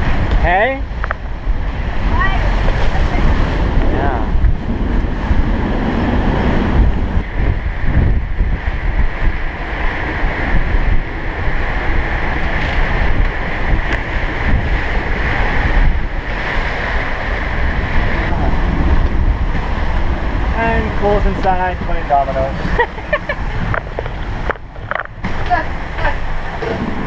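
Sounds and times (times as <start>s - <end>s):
waves rushing along hulls: 0.0s - 27.0s
wind buffeting microphone: 0.0s - 27.0s.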